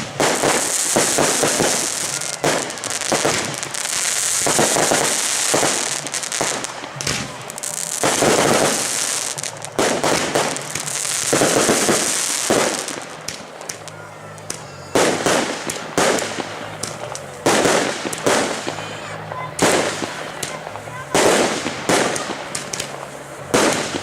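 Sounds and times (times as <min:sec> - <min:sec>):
fireworks shells bursting: 0:00.0 - 0:24.0
hissing crackle of fireworks: 0:00.0 - 0:24.0.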